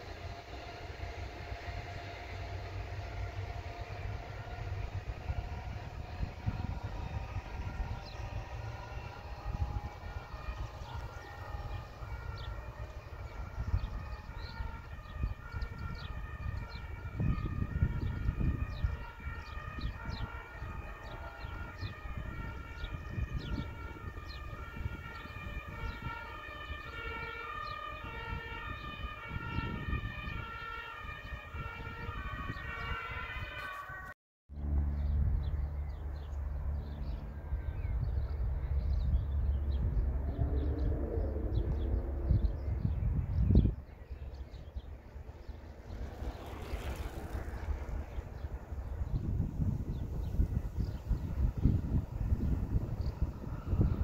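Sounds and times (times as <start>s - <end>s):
low outdoor rumble: 0.0s - 26.7s, 34.6s - 54.0s
two-tone emergency siren: 0.0s - 34.7s, 35.8s - 54.0s.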